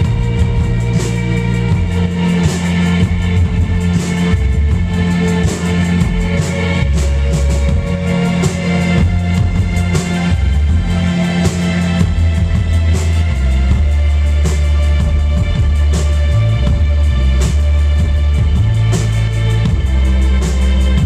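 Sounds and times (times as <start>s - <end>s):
deep bass notes: 0.0s - 21.0s
drum and cymbal hits: 0.0s - 21.0s
rock band playing: 0.0s - 21.0s.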